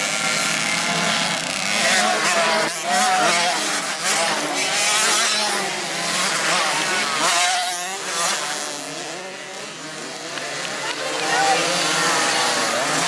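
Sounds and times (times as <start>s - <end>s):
motocross bikes revving past: 0.0s - 13.0s.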